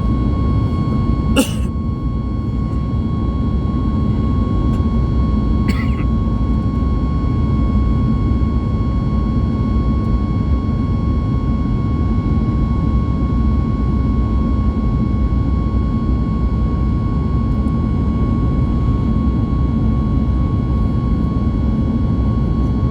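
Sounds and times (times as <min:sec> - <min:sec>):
jet engine cabin rumble: 0:00.0 - 0:22.9.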